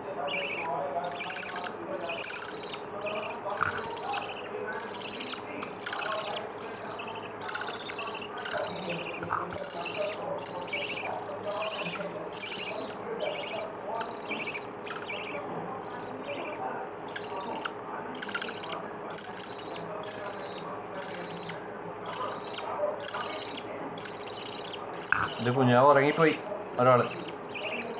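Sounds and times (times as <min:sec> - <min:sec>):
bird chicks cheeping: 0:00.0 - 0:27.9.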